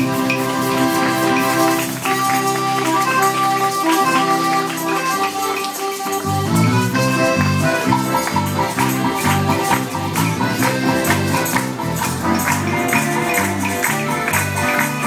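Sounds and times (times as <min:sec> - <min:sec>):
accordion: 0:00.0 - 0:15.0
guitars: 0:00.0 - 0:15.0
tambourines jingling: 0:00.0 - 0:15.0.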